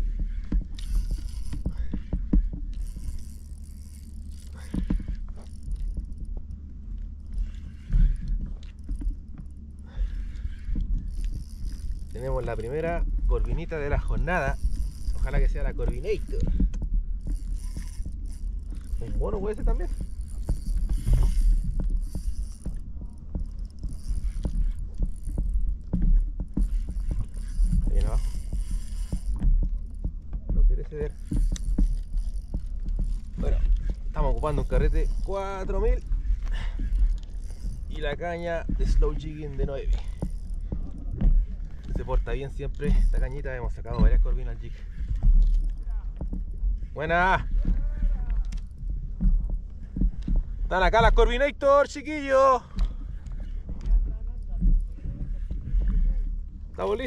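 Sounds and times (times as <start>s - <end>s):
fishing reel clicking: 0.0s - 57.0s
water noise: 0.0s - 57.0s
wind rumble on microphone: 0.0s - 57.0s.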